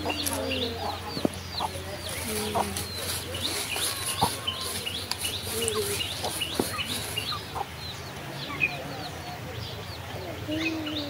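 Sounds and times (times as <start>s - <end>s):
bird clucking calls: 0.0s - 11.0s
birds chirping: 0.0s - 11.0s.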